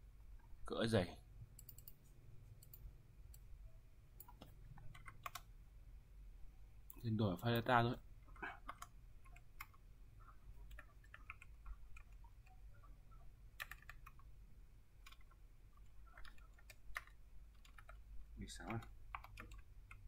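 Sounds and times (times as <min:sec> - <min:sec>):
faint keyboard typing: 0:01.4 - 0:03.5, 0:04.1 - 0:05.6, 0:06.8 - 0:20.0.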